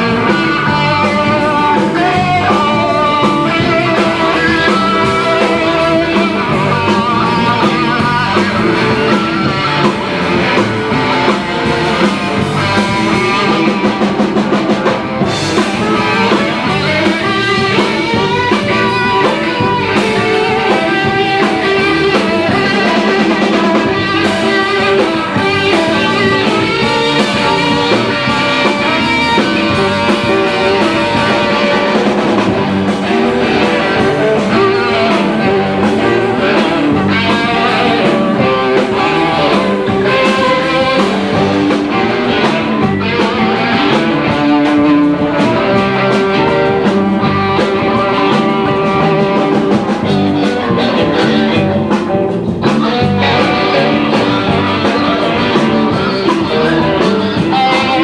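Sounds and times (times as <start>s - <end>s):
blues-rock band playing live: 0.0s - 58.0s
guitar: 0.0s - 58.0s.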